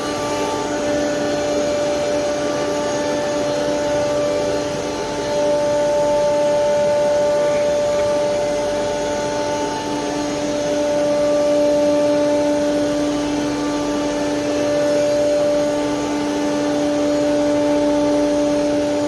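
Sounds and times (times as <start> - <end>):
router spindle whine: 0.0 - 19.0
rushing machine noise: 0.0 - 19.0.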